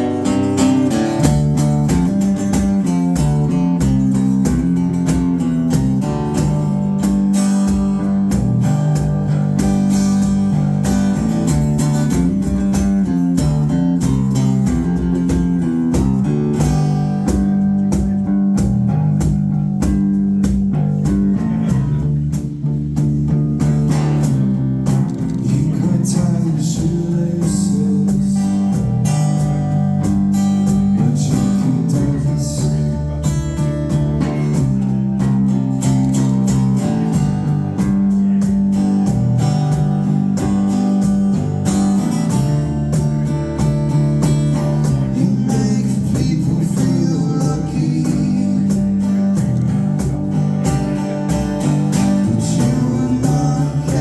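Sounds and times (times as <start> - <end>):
steady drum beat: 0.0 - 54.0
strummed guitars: 0.0 - 54.0.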